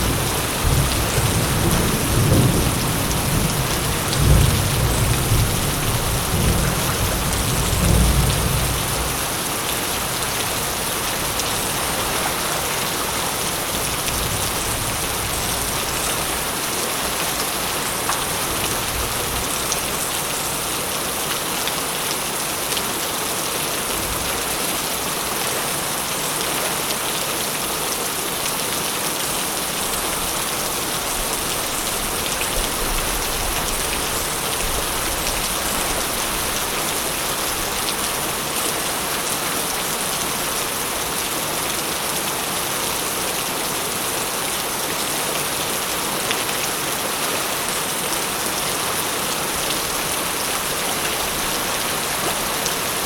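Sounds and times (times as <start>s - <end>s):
dense rain falling: 0.0s - 53.0s.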